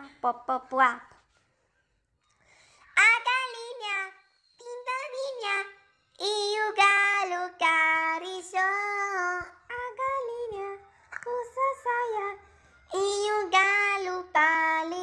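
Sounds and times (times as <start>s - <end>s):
child singing: 2.9s - 15.0s.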